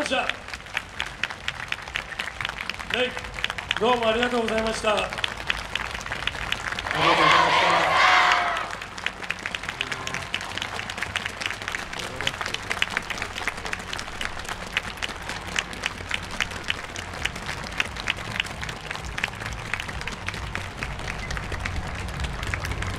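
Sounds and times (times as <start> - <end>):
audience applauding: 0.0 - 22.9.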